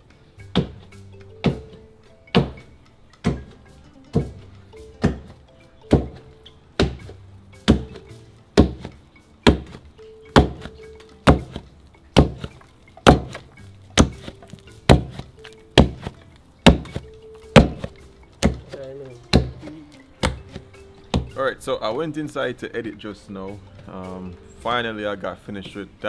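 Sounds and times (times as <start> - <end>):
wooden pestle pounding dough: 0.4 - 21.4.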